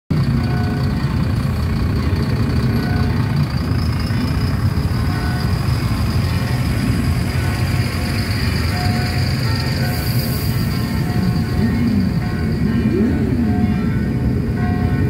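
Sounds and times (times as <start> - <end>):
fire engine diesel rumbling: 0.1 - 15.0.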